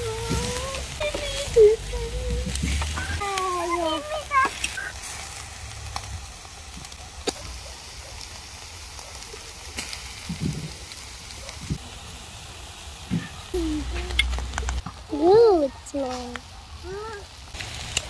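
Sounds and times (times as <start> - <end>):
chicken sizzling on grill: 0.0 - 18.0.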